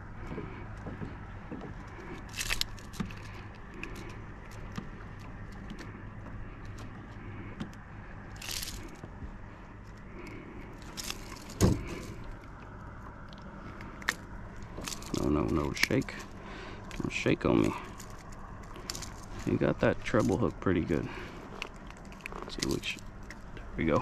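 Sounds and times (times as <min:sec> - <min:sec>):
fish handling clicks and rattles: 0:00.2 - 0:24.0.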